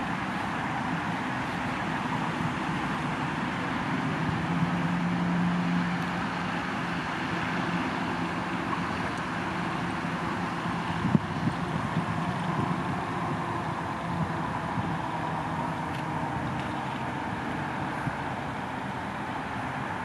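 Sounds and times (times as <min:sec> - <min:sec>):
low engine hum: 0:00.0 - 0:20.0
traffic noise: 0:00.0 - 0:20.0.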